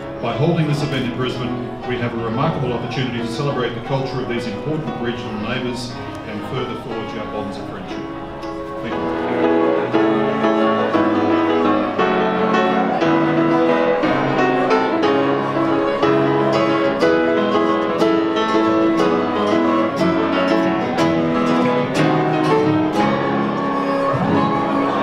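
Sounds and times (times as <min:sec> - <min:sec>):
bowed string instrument: 0:00.0 - 0:25.0
classical guitar plucking melody: 0:00.0 - 0:25.0.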